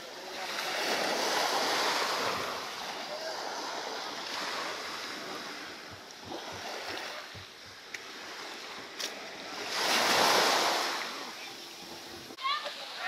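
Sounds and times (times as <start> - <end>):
wave breaking on beach: 0.0 - 13.0.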